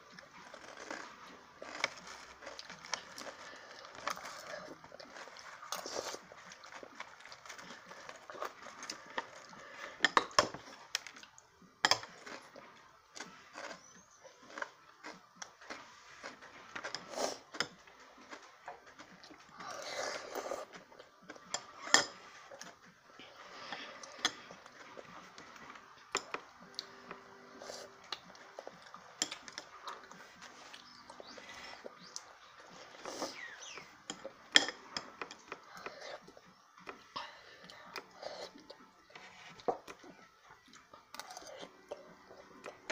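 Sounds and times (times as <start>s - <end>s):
chewing: 0.0s - 42.9s.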